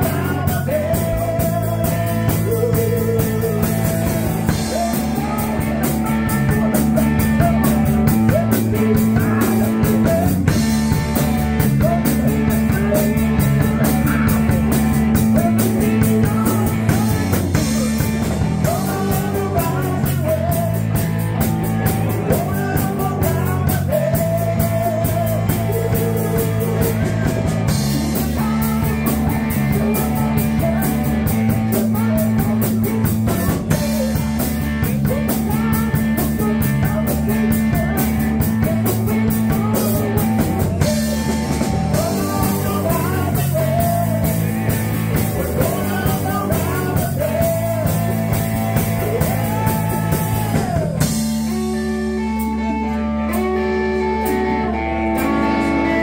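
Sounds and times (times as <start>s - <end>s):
drum kit: 0.0s - 56.0s
electric bass: 0.0s - 56.0s
electric guitar: 0.0s - 56.0s
person singing: 0.0s - 56.0s.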